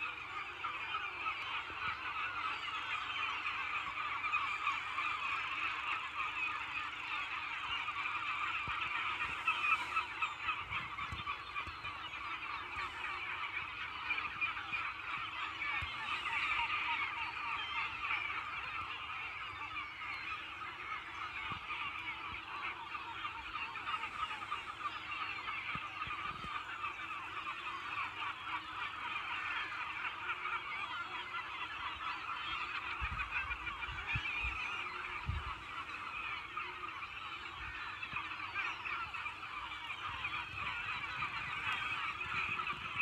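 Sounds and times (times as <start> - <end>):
gulls calling: 0.0 - 43.0.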